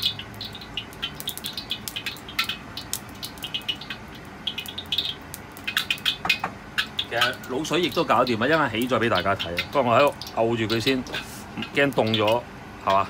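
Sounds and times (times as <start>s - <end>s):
hot oil crackling and popping: 0.0s - 13.0s.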